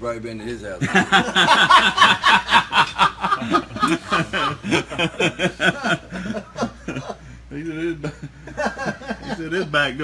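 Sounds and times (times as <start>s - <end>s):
men laughing: 0.8s - 9.8s.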